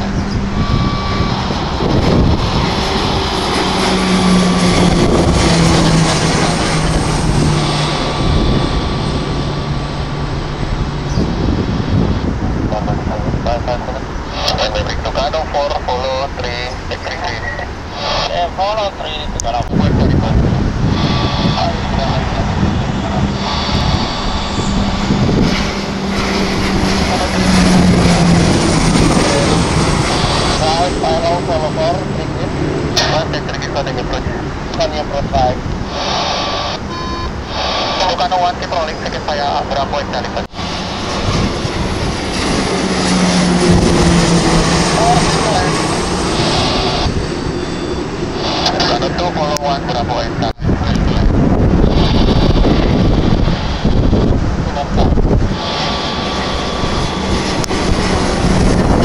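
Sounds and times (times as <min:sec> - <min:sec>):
high turbine whine: 0:00.0 - 0:59.0
propeller plane droning overhead: 0:00.0 - 0:59.0.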